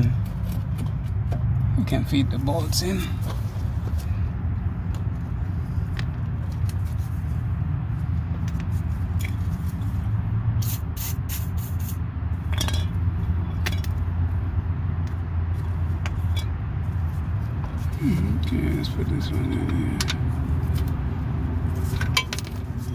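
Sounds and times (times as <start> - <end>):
low background rumble: 0.0 - 22.9.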